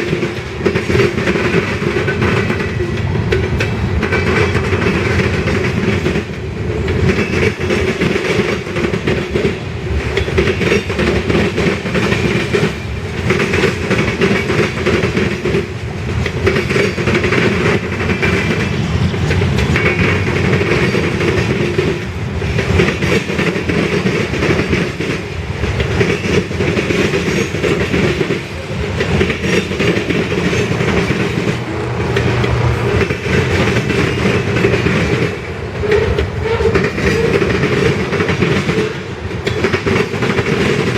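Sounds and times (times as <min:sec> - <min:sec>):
freight train rumble: 0:00.0 - 0:40.9
train wheels clattering: 0:00.0 - 0:40.9.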